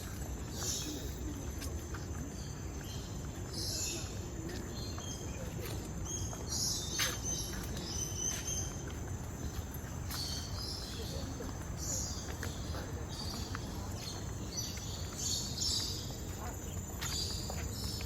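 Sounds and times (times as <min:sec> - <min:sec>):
birds chirping: 0:00.1 - 0:01.5, 0:02.4 - 0:18.0.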